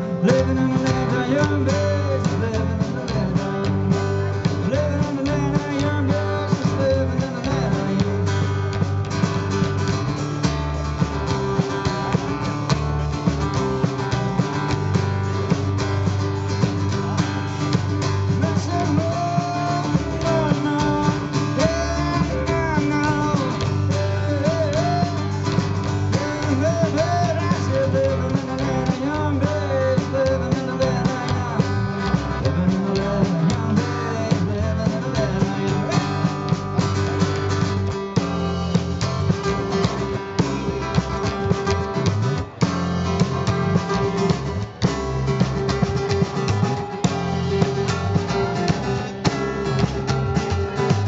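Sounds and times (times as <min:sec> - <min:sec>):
acoustic guitar: 0:00.0 - 0:51.0
bass line: 0:00.0 - 0:51.0
drum kit: 0:00.0 - 0:51.0.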